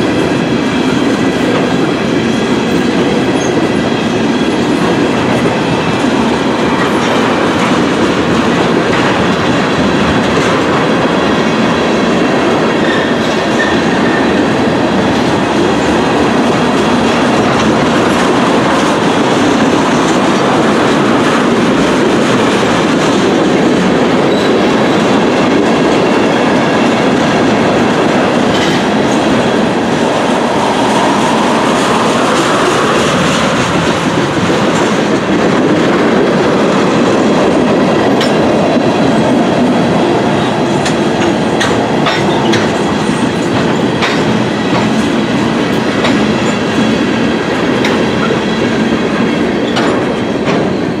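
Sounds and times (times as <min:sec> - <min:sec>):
steel wheels rumbling on rails: 0:00.0 - 0:51.0.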